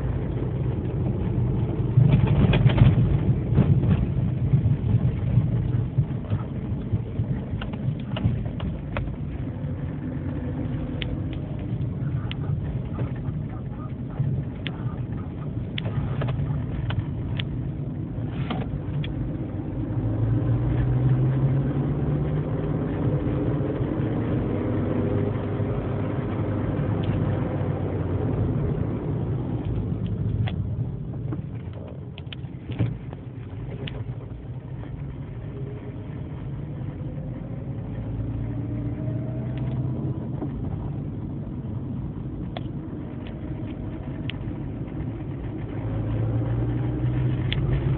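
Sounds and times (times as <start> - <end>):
car engine revving while driving: 0.0 - 47.9.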